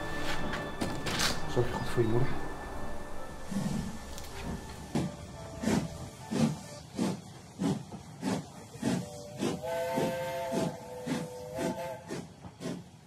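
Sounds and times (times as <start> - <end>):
steam locomotive exhaust chuffs: 1.5 - 13.0.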